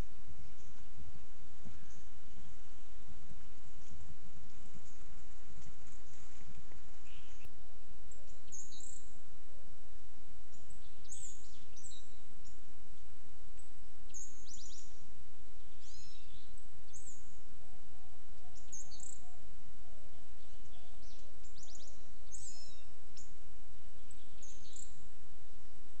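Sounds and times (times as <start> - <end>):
birds chirping: 0.0 - 9.3, 10.4 - 25.2
low background rumble: 0.0 - 26.0.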